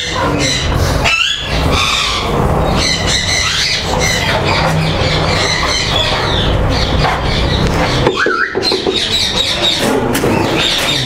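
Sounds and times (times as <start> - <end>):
parrots squawking and screeching: 0.0 - 11.0.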